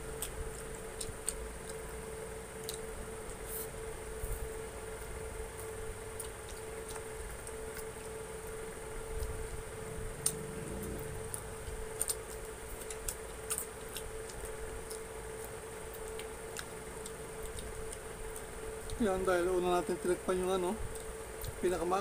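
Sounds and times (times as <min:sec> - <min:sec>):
chewing and tearing chicken: 0:00.0 - 0:22.0
steady hum: 0:00.0 - 0:22.0.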